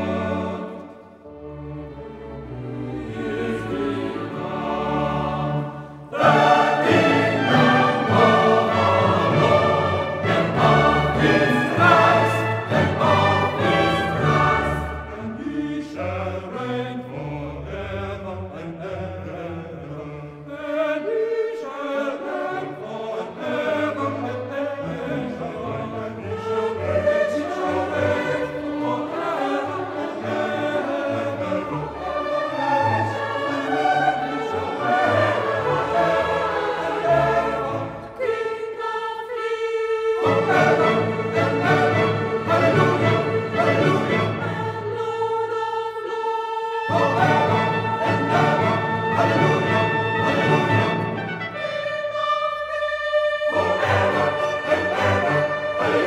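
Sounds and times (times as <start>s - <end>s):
choir singing held notes: 0.0s - 56.0s.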